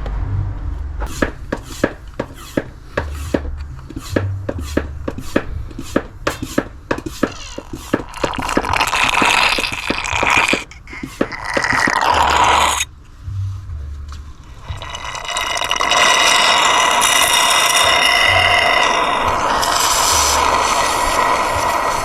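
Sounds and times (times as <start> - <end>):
hand pump clicking strokes: 1.0 - 12.9, 14.6 - 22.0
pump hissing: 1.1 - 12.9, 14.6 - 22.0.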